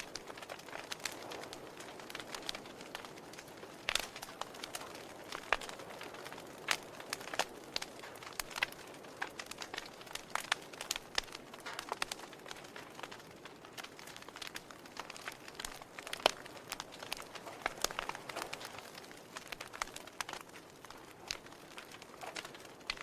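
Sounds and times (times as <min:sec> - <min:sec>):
fire crackling and popping: 0:00.0 - 0:23.0
fire hissing softly: 0:00.0 - 0:23.0.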